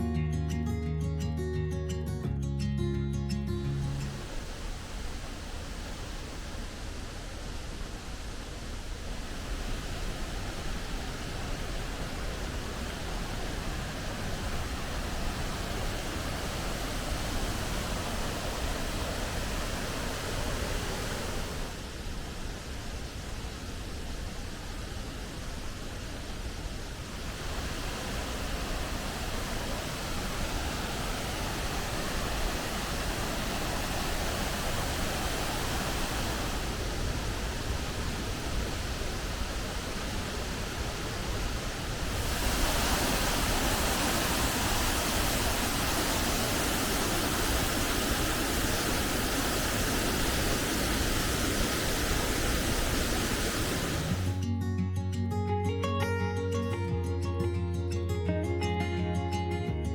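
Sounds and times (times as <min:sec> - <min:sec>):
waterfall rushing: 0:03.7 - 0:54.4.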